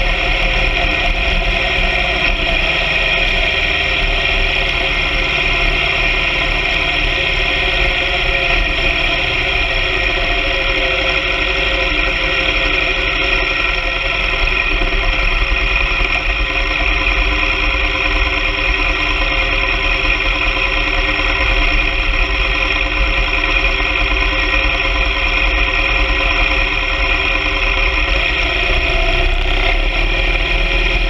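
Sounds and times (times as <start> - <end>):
motorcycle engine cruising: 0.0 - 31.0
wind rumble on microphone: 0.0 - 31.0.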